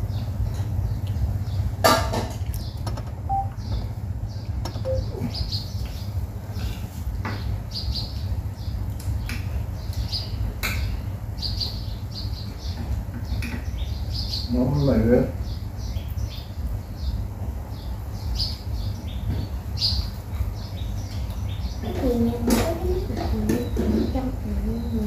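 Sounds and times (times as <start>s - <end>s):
fan low rumble: 0.0s - 25.0s
small birds chirping: 0.0s - 25.0s.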